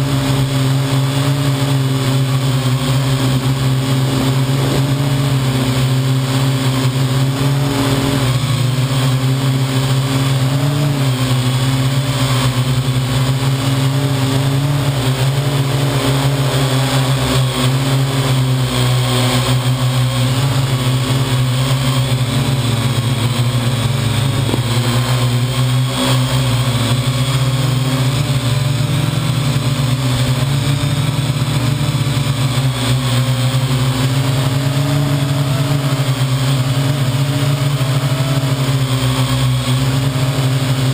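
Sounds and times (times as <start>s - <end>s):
drone propellers humming: 0.0s - 40.9s.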